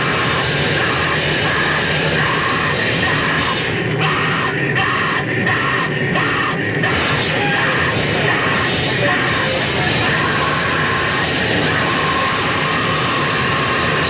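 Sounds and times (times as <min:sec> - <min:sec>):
distorted guitars: 0:00.0 - 0:14.0
drums: 0:00.0 - 0:14.0.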